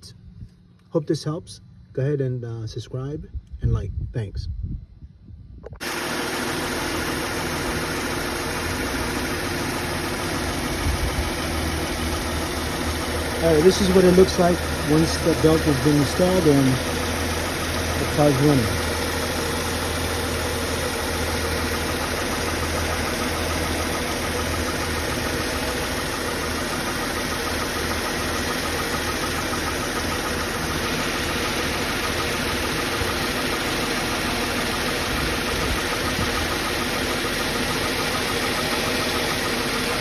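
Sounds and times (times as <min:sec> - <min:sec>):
car engine idling: 0:05.8 - 0:40.0.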